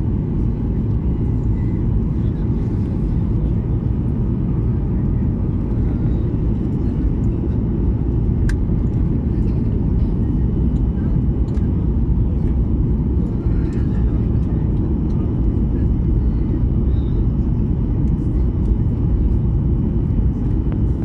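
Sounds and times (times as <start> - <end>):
airliner engine rumble in cabin: 0.0 - 21.0.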